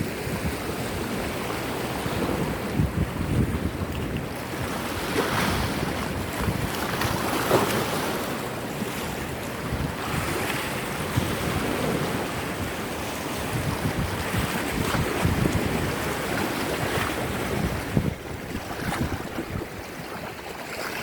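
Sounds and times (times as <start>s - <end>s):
sea waves washing on beach: 0.0s - 21.0s
wind buffeting microphone: 0.0s - 21.0s.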